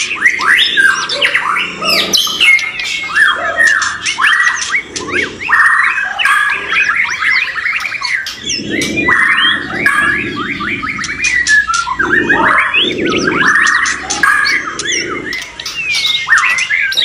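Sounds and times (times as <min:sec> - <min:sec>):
birds singing: 0:00.0 - 0:17.0
rough low bird notes: 0:00.0 - 0:17.0.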